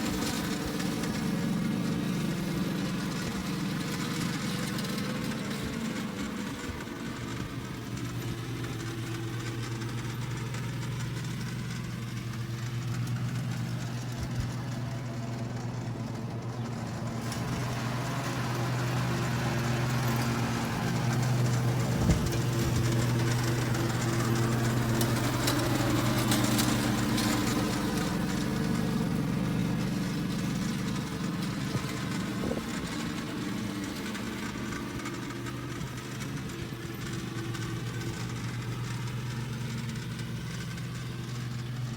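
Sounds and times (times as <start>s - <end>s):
lawn tractor engine running: 0.0s - 41.9s.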